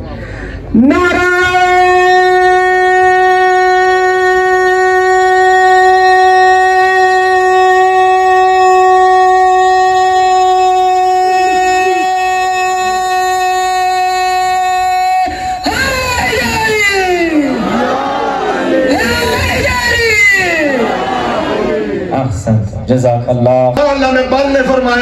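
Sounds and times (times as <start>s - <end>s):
man shouting through loudspeaker: 0.7s - 25.0s.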